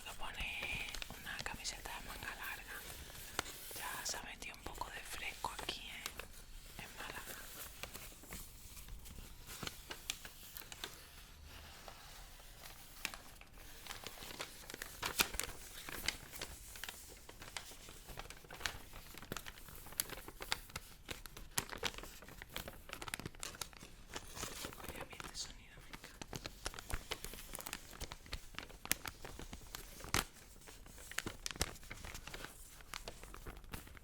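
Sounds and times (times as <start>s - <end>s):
paper crinkling: 0.0s - 34.0s.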